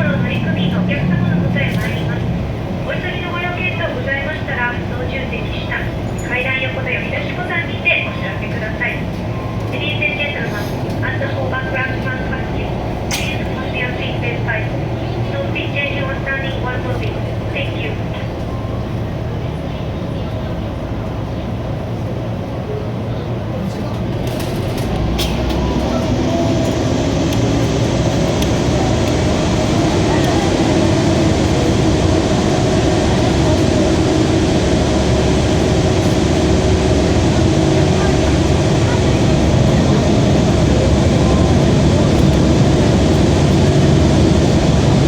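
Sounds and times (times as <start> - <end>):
hovercraft engines rumbling: 0.0 - 45.0.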